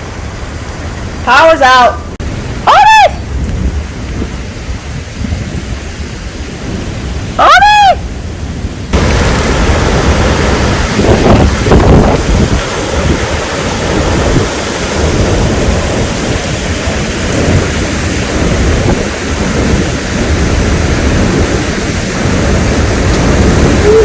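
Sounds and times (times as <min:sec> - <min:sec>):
heavy rain: 0:00.0 - 0:24.0
thunder rumble: 0:02.0 - 0:24.0.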